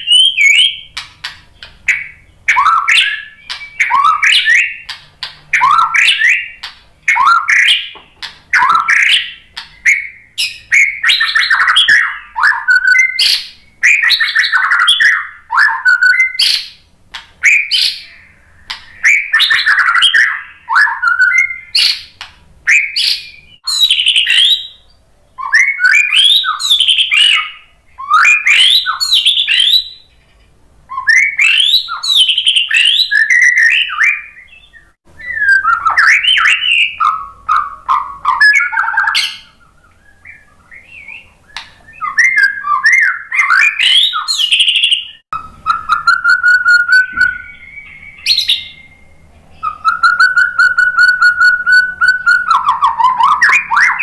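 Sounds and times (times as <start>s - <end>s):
bird singing whistles and trills: 0.0s - 30.3s, 30.9s - 54.0s.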